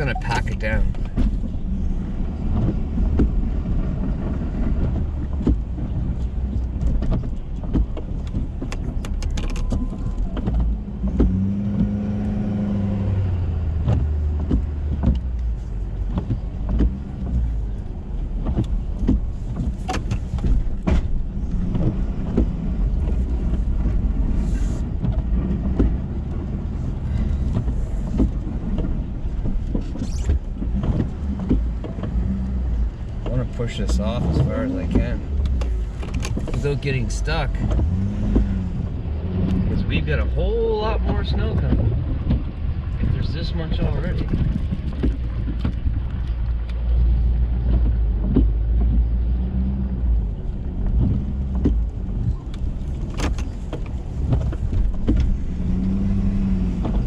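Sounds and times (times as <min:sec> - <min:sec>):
knocks and clunks: 0:00.0 - 0:01.7, 0:02.4 - 0:12.2, 0:13.6 - 0:57.0.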